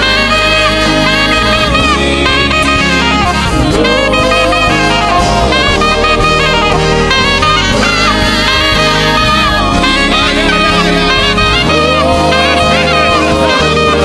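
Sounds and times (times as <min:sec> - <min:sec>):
drum kit: 0:00.0 - 0:14.0
keyboard: 0:00.0 - 0:14.0
saxophone melody: 0:00.0 - 0:14.0.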